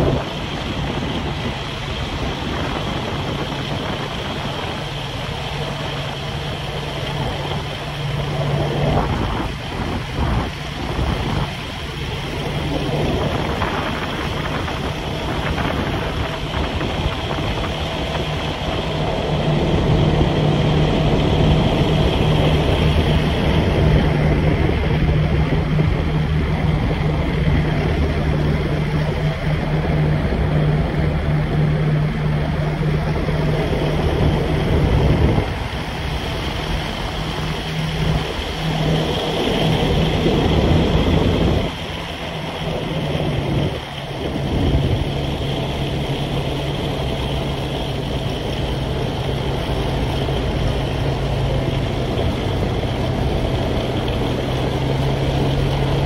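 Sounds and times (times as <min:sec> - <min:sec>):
engine running with low hum: 0:00.0 - 0:56.0
wind rushing over microphone: 0:00.0 - 0:56.0.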